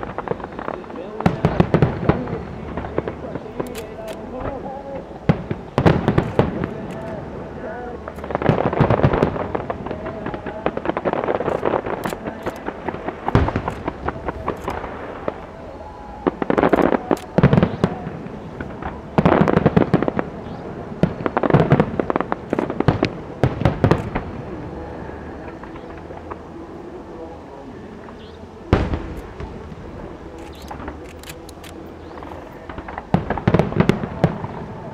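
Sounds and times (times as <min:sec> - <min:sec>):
fireworks cracks and bangs: 0:00.0 - 0:27.4, 0:28.0 - 0:34.9
crowd chatter: 0:00.0 - 0:34.9.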